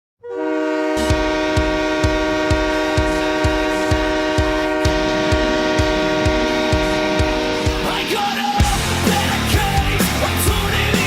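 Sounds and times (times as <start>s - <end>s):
goal horn chord: 0.2s - 9.5s
drum beat: 1.0s - 11.0s.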